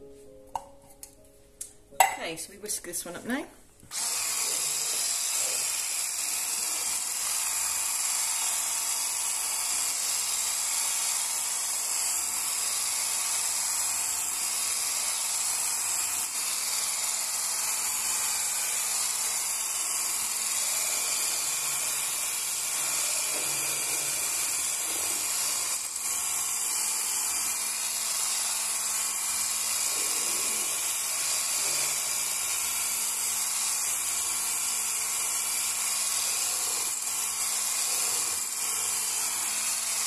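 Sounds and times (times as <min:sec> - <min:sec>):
electric whisk running: 0:03.8 - 0:40.0.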